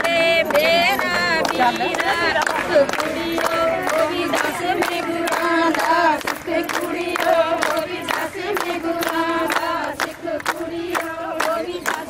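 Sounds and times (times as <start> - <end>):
rhythmic hand clapping: 0.0 - 12.0
women singing folk song: 0.0 - 12.0.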